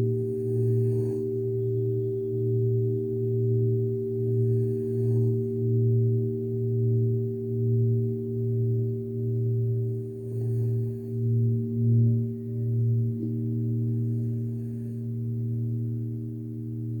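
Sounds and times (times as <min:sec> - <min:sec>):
crystal singing bowls ringing: 0:00.0 - 0:17.0.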